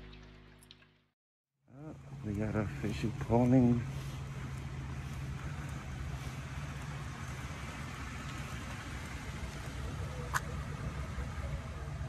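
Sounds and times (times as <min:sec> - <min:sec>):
truck engine idling: 0:01.7 - 0:12.0.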